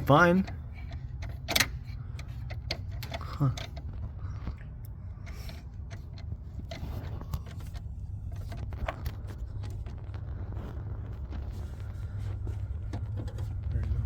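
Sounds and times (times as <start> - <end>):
steady low hum: 0.0 - 14.0
clicks knocks and scrapes on car parts: 0.5 - 14.0.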